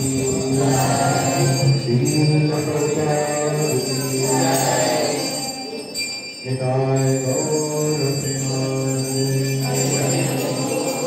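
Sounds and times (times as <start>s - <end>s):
low voices chanting: 0.0s - 5.8s, 6.7s - 11.0s.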